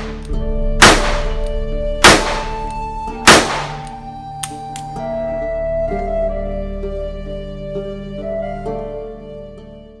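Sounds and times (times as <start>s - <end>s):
soft slow instrumental music: 0.0s - 10.0s.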